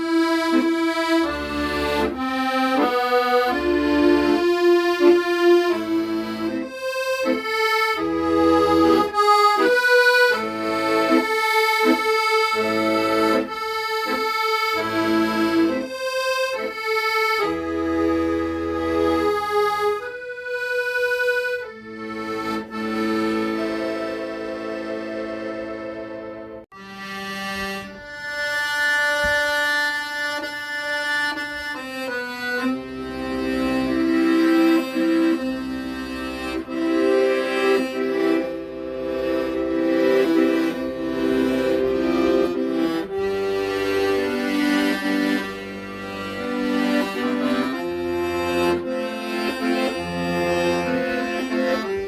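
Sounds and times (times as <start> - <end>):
accordion slow melody: 0.0 - 52.0.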